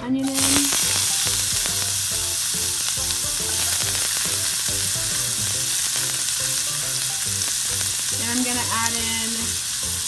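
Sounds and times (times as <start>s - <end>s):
background music with plucked notes: 0.0s - 10.0s
onions sizzling in a pan: 0.2s - 10.0s.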